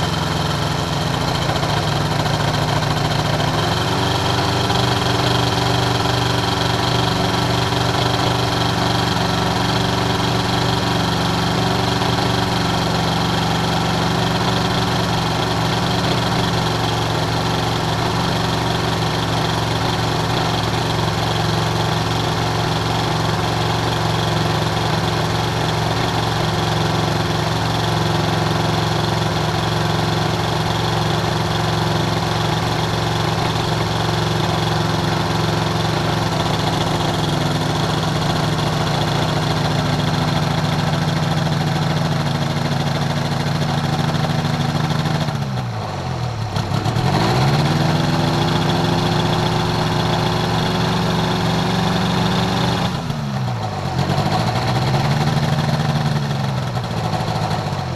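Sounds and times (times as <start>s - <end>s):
aircraft engine idling: 0.0s - 57.9s.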